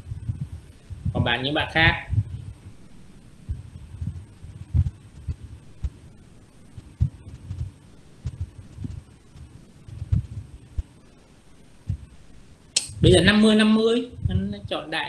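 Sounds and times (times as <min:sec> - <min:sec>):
soft low thumps: 0:00.0 - 0:13.4, 0:14.1 - 0:14.9
microphone hiss: 0:00.0 - 0:15.0.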